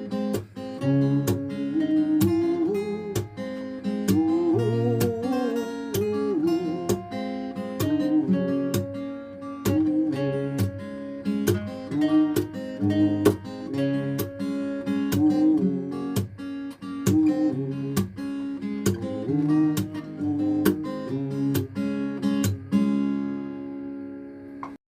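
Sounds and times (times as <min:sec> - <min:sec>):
acoustic guitar strumming chords: 0:00.0 - 0:24.8.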